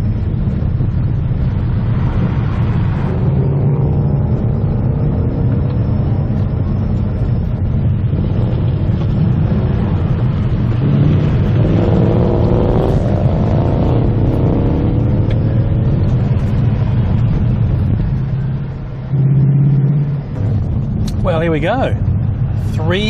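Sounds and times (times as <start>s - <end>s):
car engine rumbling: 0.0s - 23.0s
tyre and road noise: 0.0s - 23.0s.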